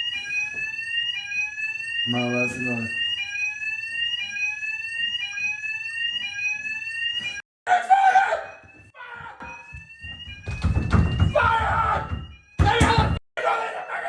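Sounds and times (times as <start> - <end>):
fire alarm rising sweep tone: 0.0 - 13.2.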